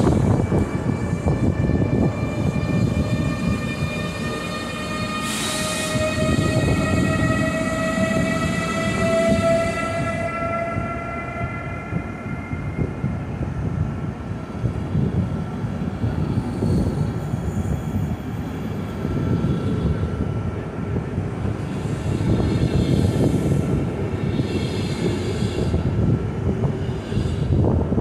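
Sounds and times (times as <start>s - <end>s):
electric locomotive whine: 0.0s - 28.0s
wheels rumbling on rail: 0.0s - 28.0s.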